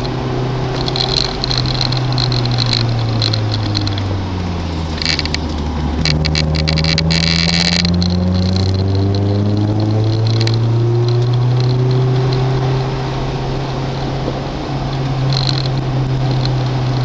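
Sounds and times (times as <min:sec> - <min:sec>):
clicks and high hiss: 0:00.0 - 0:04.2, 0:04.8 - 0:12.7, 0:14.9 - 0:17.0
car engine revving: 0:00.0 - 0:17.0.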